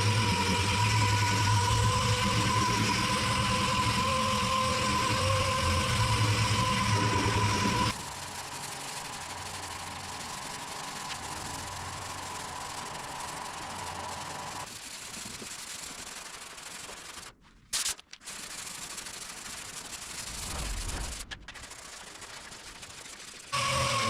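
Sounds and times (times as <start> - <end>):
sanding hiss: 0.0 - 17.1, 18.3 - 24.0.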